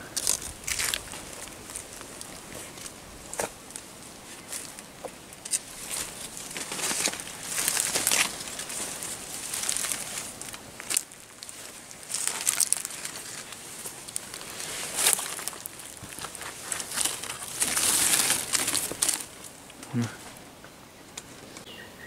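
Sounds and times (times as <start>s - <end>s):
dry leaves and twigs crackling: 0.0s - 21.7s.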